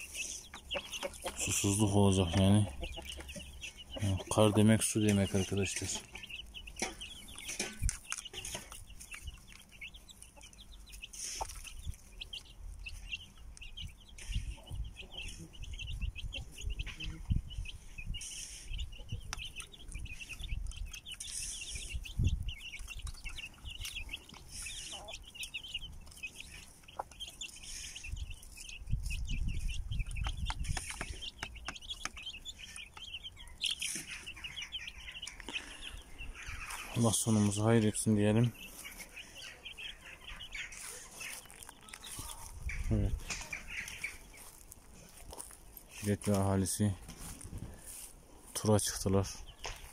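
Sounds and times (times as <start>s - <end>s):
chicks peeping: 0.0s - 49.9s
hen clucking: 0.0s - 49.9s.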